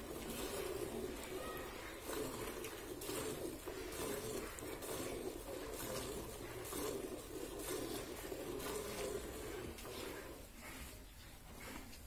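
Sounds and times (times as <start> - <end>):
milk jets swishing into a pail: 0.0 - 12.0.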